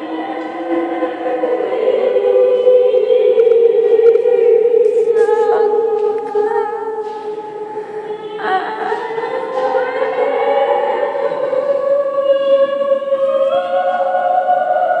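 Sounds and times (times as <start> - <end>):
voices holding long notes: 0.0 - 15.0.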